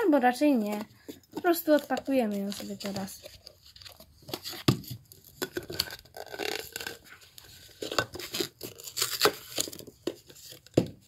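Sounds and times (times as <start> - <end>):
cardboard tearing and crinkling: 1.7 - 10.7.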